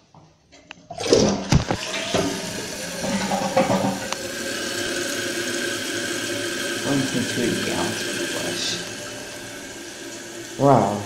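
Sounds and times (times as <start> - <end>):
toilet flush clunk: 0.9 - 10.6.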